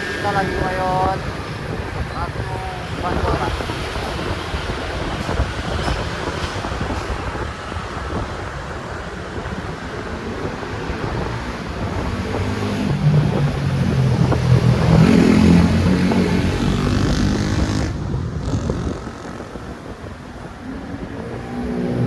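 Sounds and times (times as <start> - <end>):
traffic road noise: 0.0 - 22.0
wind buffeting microphone: 0.0 - 22.0.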